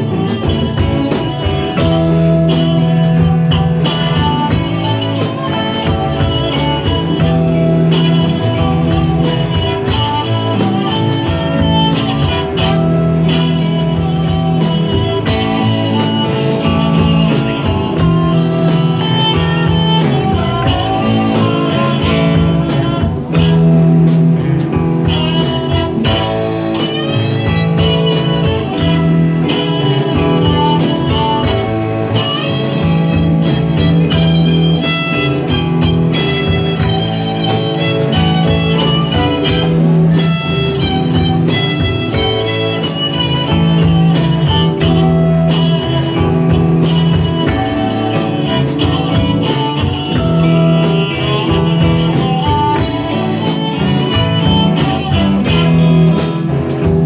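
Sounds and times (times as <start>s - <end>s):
drum beat: 0.0s - 57.0s
electric guitar lines: 0.0s - 57.0s.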